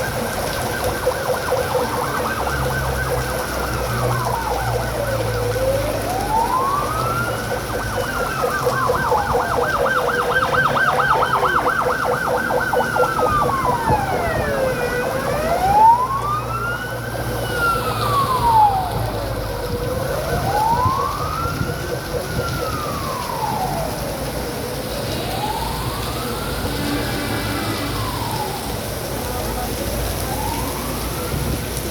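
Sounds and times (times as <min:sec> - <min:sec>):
emergency siren wailing: 0:00.0 - 0:31.9
fast siren warble: 0:00.8 - 0:24.1, 0:24.9 - 0:28.7.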